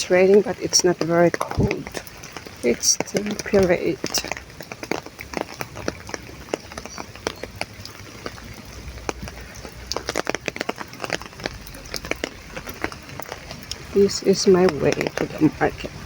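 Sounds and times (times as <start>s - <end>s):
rain hiss: 0.0s - 16.0s
raindrops ticking on umbrella: 0.0s - 16.0s.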